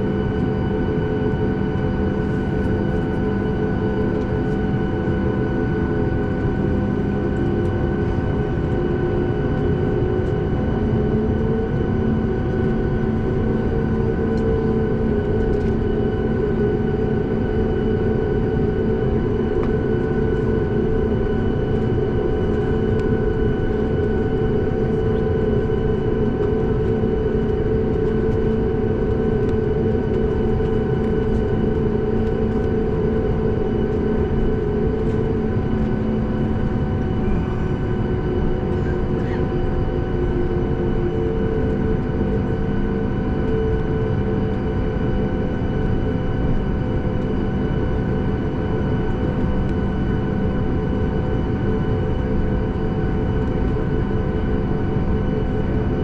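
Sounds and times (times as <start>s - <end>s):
jet engine rumble and airflow: 0.0s - 56.0s
multi-tone hum: 0.0s - 56.0s.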